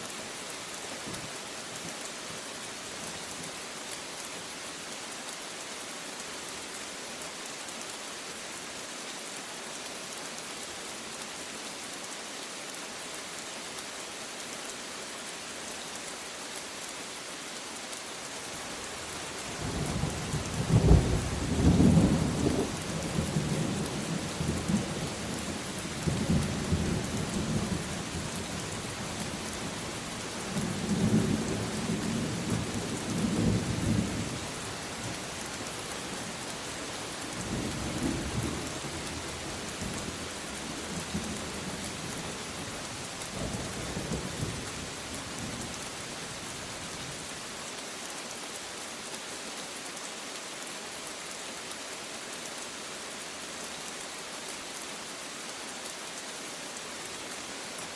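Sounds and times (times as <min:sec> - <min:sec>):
rain hiss: 0:00.0 - 0:57.9.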